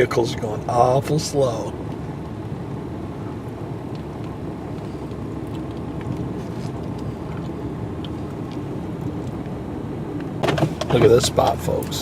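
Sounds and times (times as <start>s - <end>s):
diesel engine and tyres droning: 0.0s - 12.0s.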